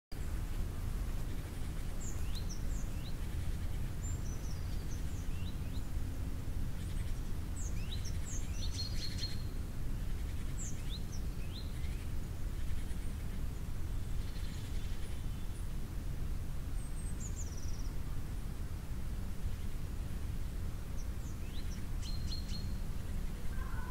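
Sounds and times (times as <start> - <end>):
small birds chirping: 0.1 - 16.0, 16.6 - 18.4, 19.3 - 23.9
low background rumble: 0.2 - 23.9.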